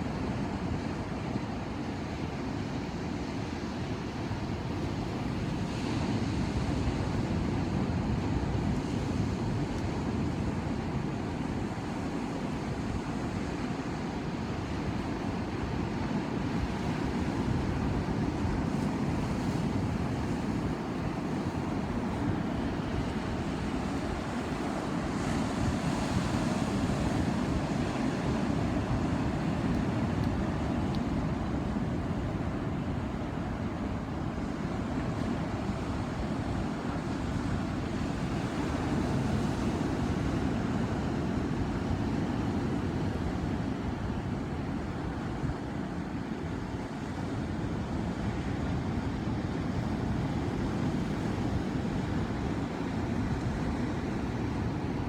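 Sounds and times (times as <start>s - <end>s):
ocean waves breaking: 0.1s - 55.0s.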